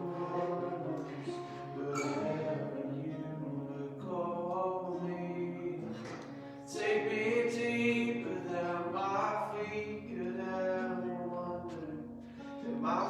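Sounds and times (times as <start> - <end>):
voices singing worship music: 0.0 - 11.1
instrumental accompaniment: 0.0 - 13.0.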